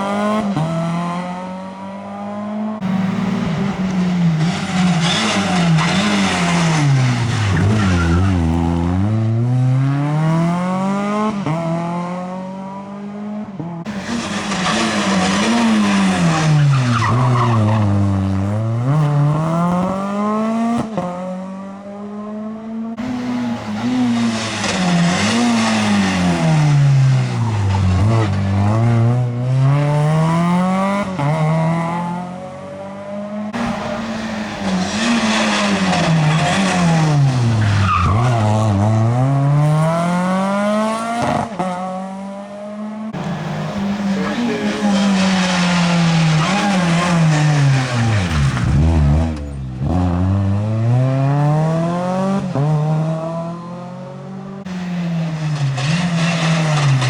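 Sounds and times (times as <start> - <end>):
rally car engines accelerating: 0.0 - 57.0.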